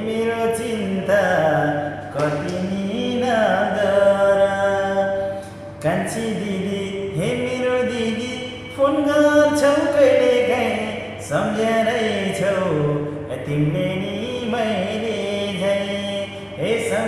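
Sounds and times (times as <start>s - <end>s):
man singing slowly: 0.0s - 17.0s.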